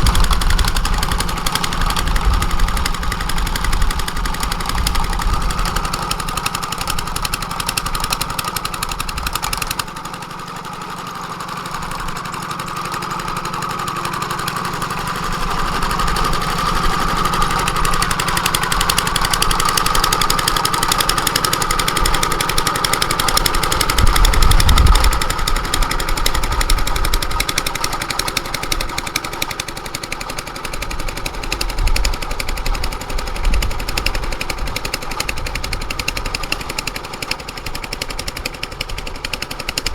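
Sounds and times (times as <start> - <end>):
engine knocking beat: 0.0 - 39.9.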